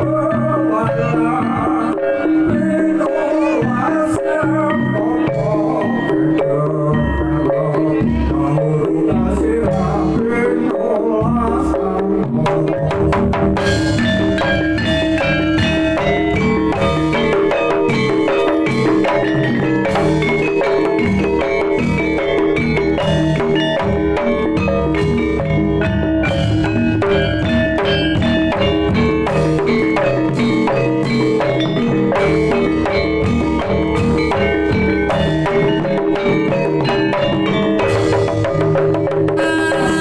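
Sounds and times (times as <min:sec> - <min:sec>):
hand drum playing: 0:00.0 - 0:40.0
ringing mallet instruments melody: 0:00.0 - 0:40.0.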